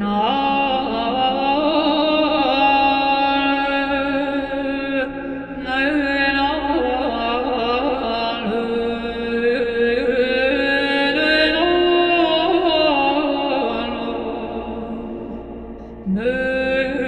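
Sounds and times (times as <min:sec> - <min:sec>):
chant-like music gliding notes: 0:00.0 - 0:17.0.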